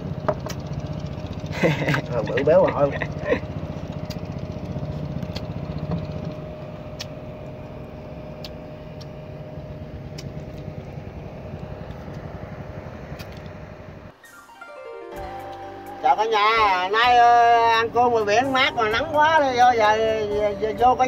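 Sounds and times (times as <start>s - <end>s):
boat engine idling: 0.0s - 14.1s, 15.4s - 21.0s.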